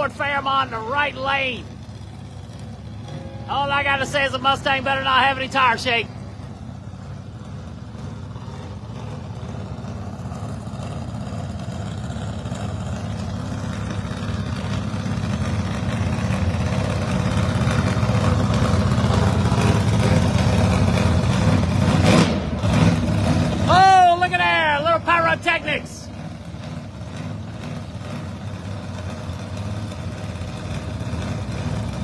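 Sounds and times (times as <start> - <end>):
race car engines idling: 0.0 - 32.0.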